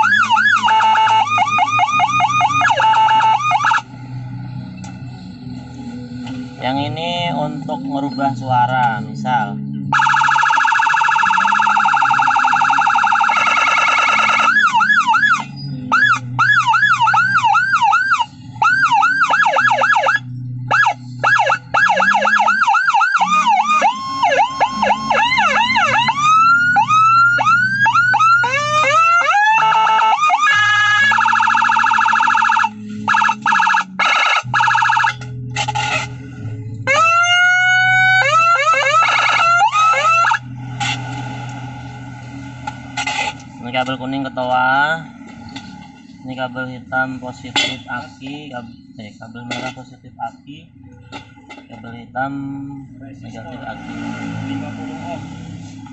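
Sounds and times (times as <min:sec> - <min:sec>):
electronic siren sweeping tones: 0:00.0 - 0:46.6, 0:53.1 - 0:55.9.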